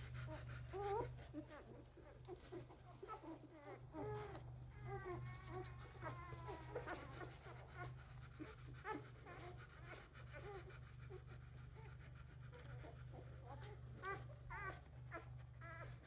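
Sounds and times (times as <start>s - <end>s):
dog panting: 0.0s - 16.0s
puppies squeaking and whimpering: 0.1s - 16.0s.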